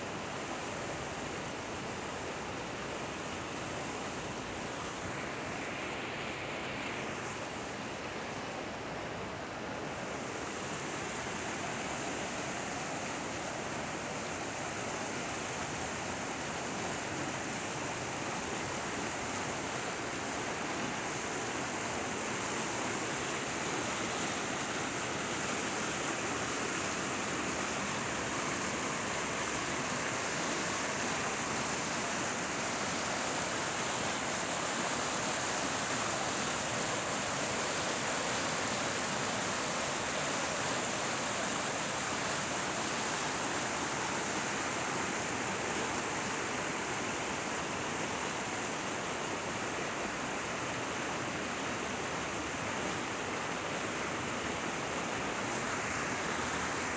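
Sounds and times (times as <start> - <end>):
creek rushing over rocks: 0.0 - 56.9.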